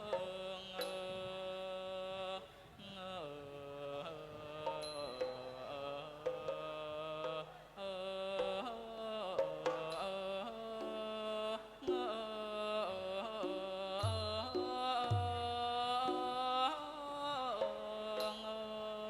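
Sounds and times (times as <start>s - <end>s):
light percussion: 0.0s - 19.0s.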